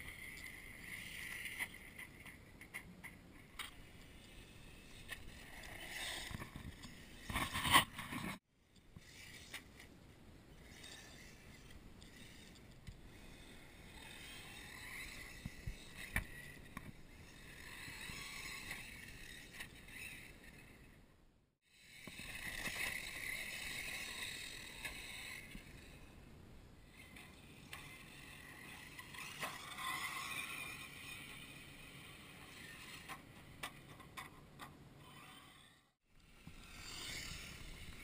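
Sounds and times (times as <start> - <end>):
toy car motor whining: 3.6 - 7.8, 9.0 - 9.9, 10.6 - 21.0, 21.7 - 26.2, 26.9 - 38.0.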